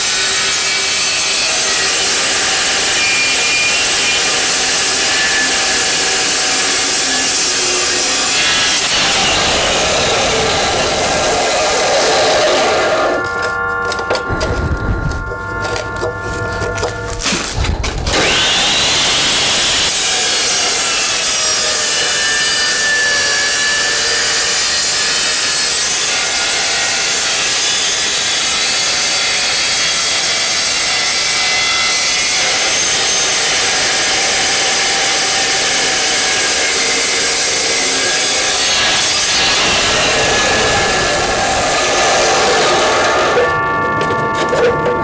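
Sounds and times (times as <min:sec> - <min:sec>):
chop saw cutting steel: 0:00.0 - 0:14.6, 0:15.6 - 0:45.0.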